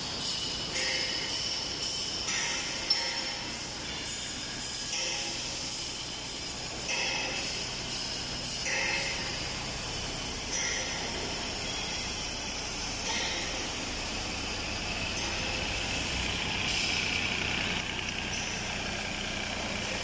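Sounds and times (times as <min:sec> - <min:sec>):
diesel excavator engine running: 0:00.0 - 0:20.0.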